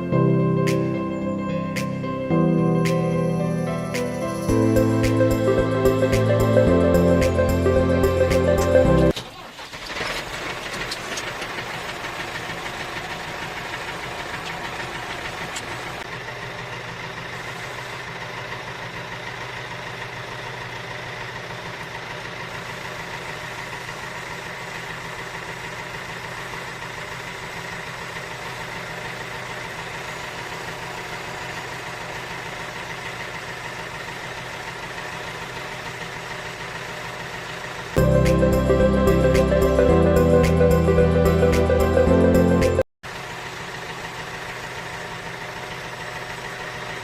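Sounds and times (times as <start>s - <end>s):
tractor engine idling: 0.0s - 47.0s.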